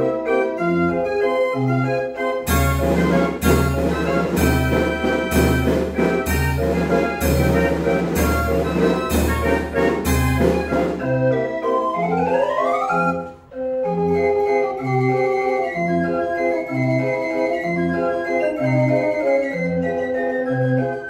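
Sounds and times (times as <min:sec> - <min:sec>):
street organ playing: 0:00.0 - 0:21.0.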